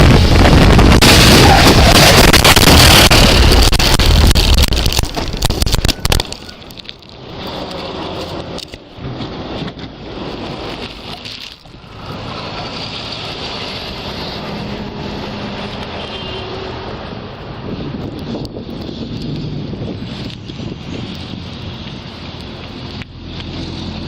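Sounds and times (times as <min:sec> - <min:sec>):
road vehicle noise: 0:00.0 - 0:24.0
wind rumble on microphone: 0:00.0 - 0:24.0.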